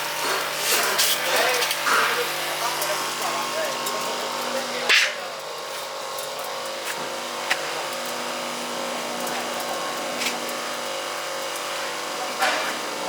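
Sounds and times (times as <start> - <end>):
rice mill motor hum: 0.0 - 13.0.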